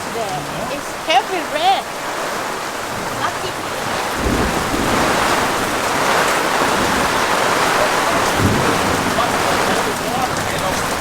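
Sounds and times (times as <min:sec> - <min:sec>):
heavy rain: 0:00.0 - 0:11.0
thunder rumbles: 0:02.0 - 0:11.0.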